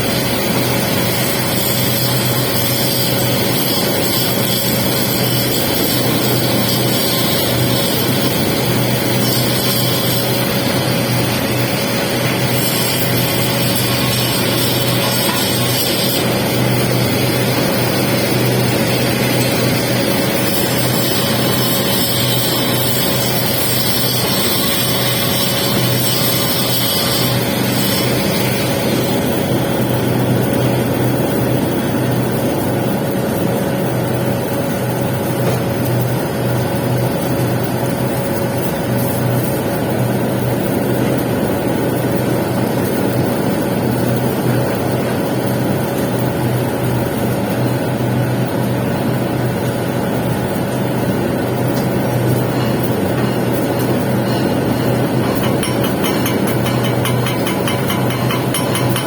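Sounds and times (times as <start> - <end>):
welding machine drone and whine: 0.0 - 59.0.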